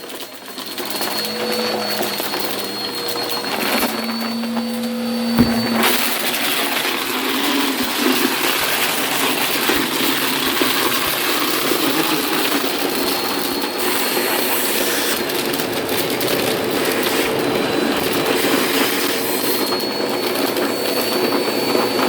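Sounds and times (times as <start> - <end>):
vacuum cleaner running: 0.3 - 22.0.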